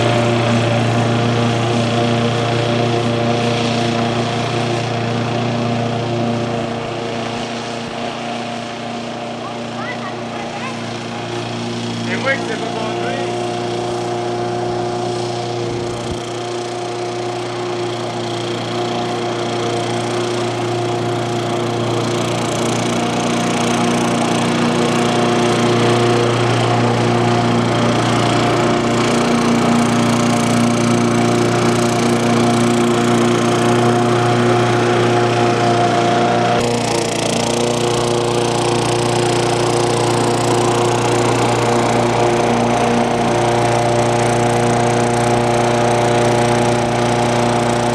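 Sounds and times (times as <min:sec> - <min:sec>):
lawnmower droning hum: 0:00.0 - 0:47.9.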